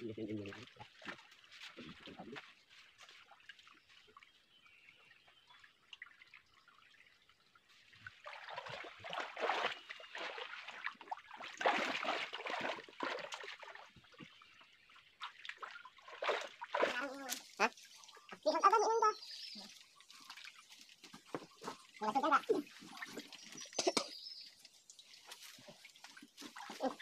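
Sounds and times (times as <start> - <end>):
creek water trickling: 0.0 - 27.0
water splashing and sloshing: 0.2 - 27.0.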